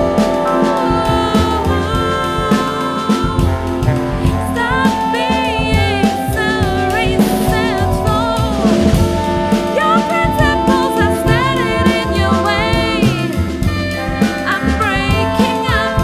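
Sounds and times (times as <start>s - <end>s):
drum kit beat with snare: 0.0s - 16.0s
live band playing: 0.0s - 16.0s
sliding lead melody: 0.0s - 16.0s.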